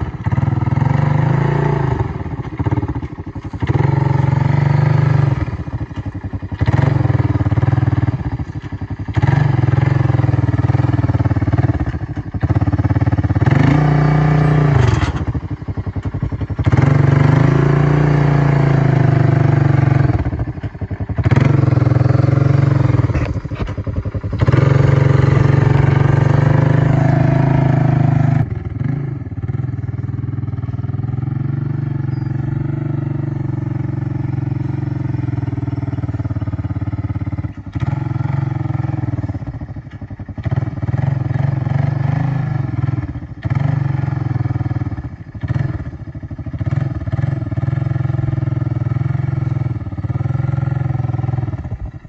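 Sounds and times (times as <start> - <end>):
engine revving under load: 0.0 - 51.7.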